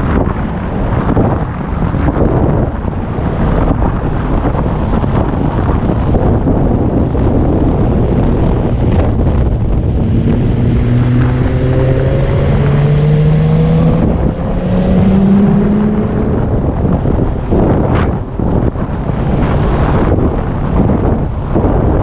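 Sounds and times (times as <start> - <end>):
motorcycle engine climbing in pitch: 0.0 - 22.0
wind buffeting microphone: 0.0 - 22.0.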